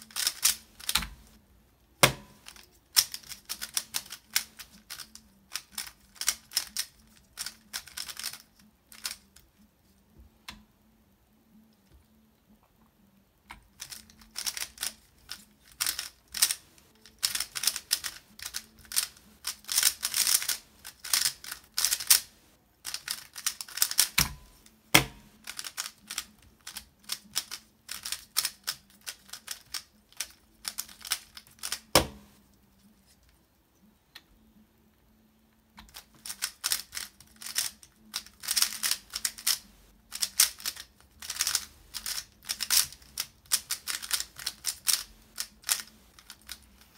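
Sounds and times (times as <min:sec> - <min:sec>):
speedcube layers clicking: 0:00.0 - 0:01.4, 0:02.3 - 0:09.4, 0:13.5 - 0:24.6, 0:25.4 - 0:32.3, 0:35.8 - 0:46.9.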